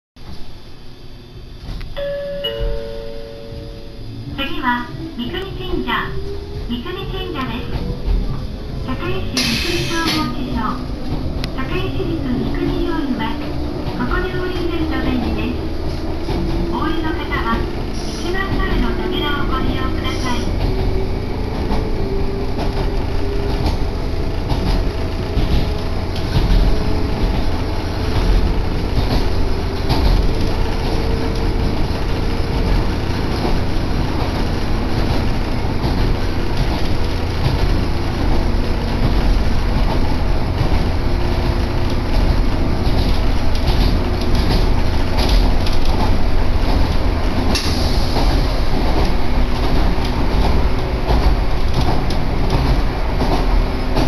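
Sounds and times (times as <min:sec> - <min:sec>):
train wheels rumbling on track: 0:00.2 - 0:54.0.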